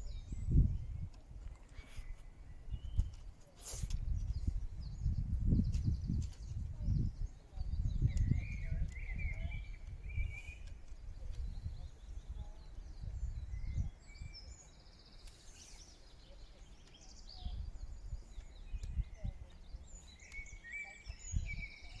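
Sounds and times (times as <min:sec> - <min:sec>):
small birds singing and chirping: 0:00.0 - 0:22.0.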